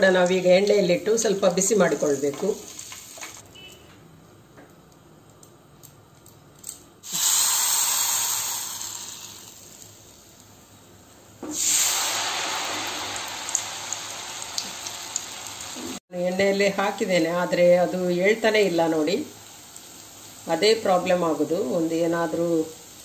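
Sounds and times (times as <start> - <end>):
batter sizzling in hot oil: 0.0 - 3.4, 7.0 - 23.0.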